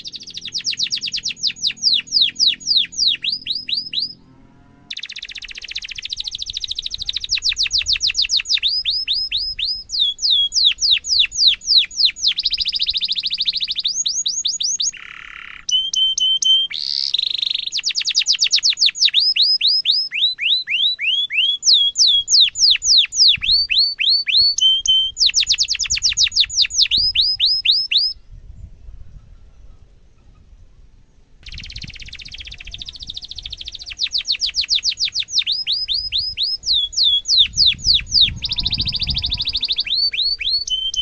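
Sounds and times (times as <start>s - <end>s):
canary singing: 0.0s - 28.2s, 31.4s - 41.0s.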